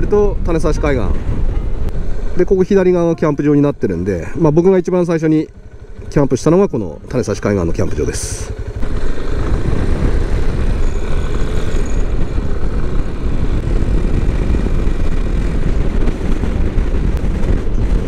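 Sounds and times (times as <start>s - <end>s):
motorcycle engine rumble: 0.0s - 18.0s
road noise: 0.0s - 18.0s
wind buffeting microphone: 0.0s - 18.0s.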